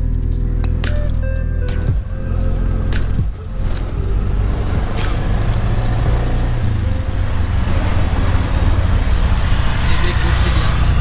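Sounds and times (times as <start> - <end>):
road noise: 0.0 - 11.0
auto-rickshaw engine rumbling: 1.4 - 11.0.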